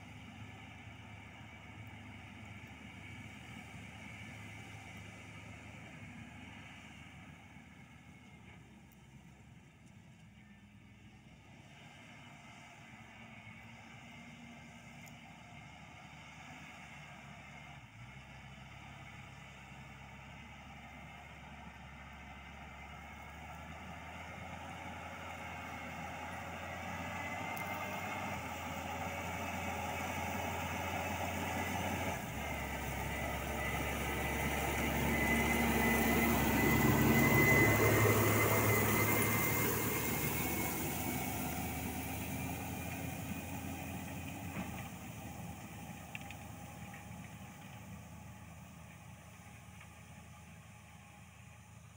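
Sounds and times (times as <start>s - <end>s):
tractor running under load: 0.0s - 51.9s.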